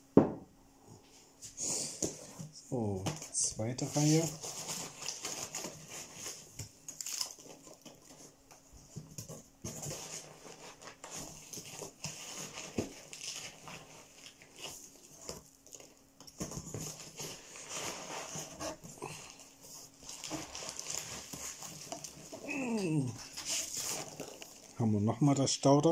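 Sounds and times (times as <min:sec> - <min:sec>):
packing material rustling: 0:03.1 - 0:24.8.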